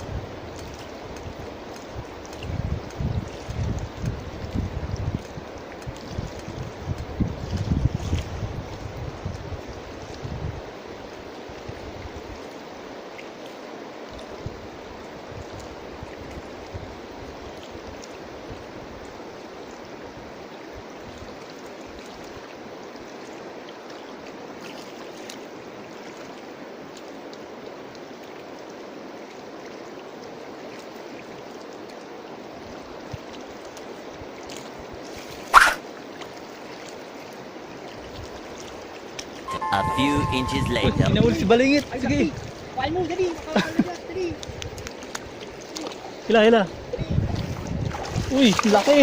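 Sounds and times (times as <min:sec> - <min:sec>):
river water rushing: 0:09.6 - 0:49.0.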